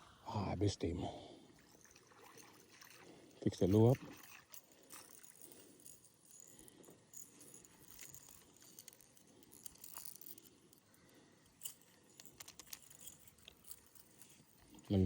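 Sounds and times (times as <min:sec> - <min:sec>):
fishing tackle clicking and jingling: 0:01.5 - 0:15.0.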